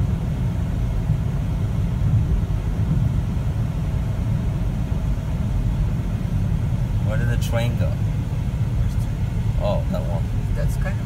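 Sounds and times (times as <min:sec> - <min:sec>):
car cruising on highway: 0:00.0 - 0:11.0.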